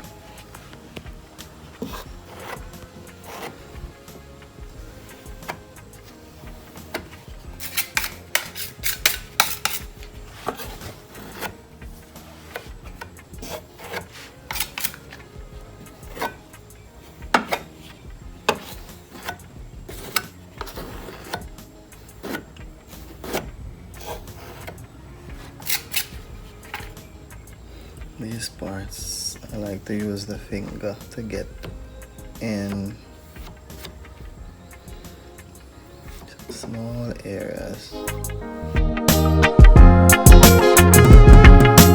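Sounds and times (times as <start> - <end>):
spreader scraping filler on plastic: 0.0 - 37.5.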